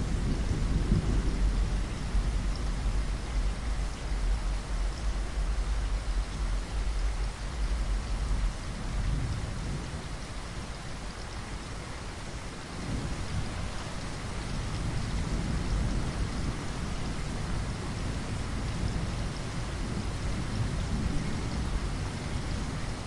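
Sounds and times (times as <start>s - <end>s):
heavy rain on window glass: 0.0s - 23.0s.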